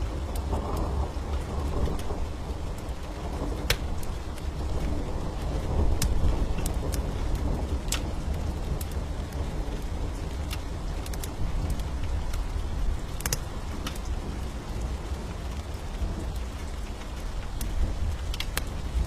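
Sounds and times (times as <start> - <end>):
rain hiss: 0.0 - 19.0
wood fire crackling and popping: 0.0 - 19.0.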